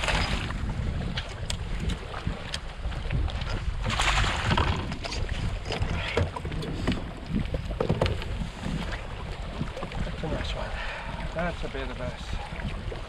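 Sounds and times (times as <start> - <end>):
knocks and rattles on kayak: 0.0 - 13.0
wind rumbling on microphone: 0.0 - 13.0.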